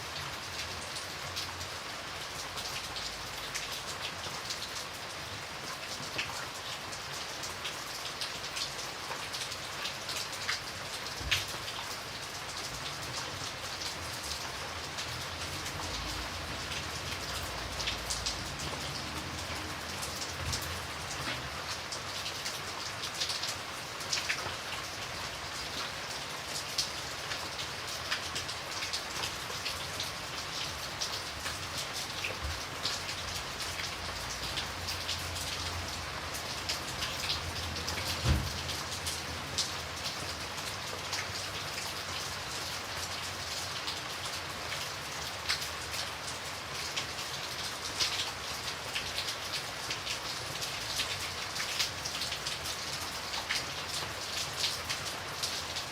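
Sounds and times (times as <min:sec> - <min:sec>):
rain drops ticking on a surface: 0:00.0 - 0:55.9.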